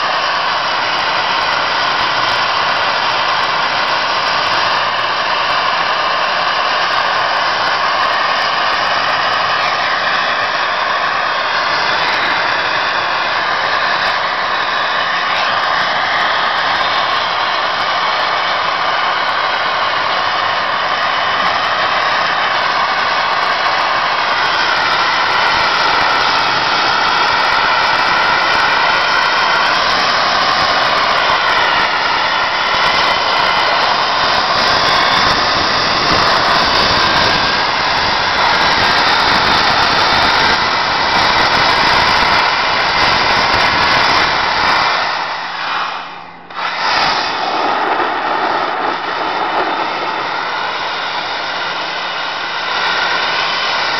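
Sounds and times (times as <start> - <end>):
sandblaster hissing: 0.0 - 53.9.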